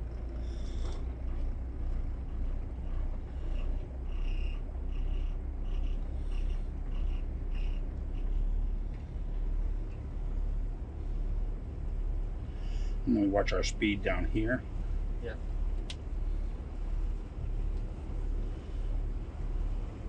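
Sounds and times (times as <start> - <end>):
diesel engines idling: 0.0 - 20.0.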